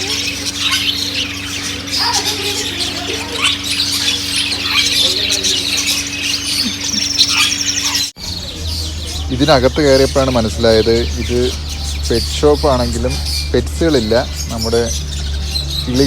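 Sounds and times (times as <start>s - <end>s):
many birds chirping: 0.0s - 16.0s
steady low hum: 0.0s - 16.0s.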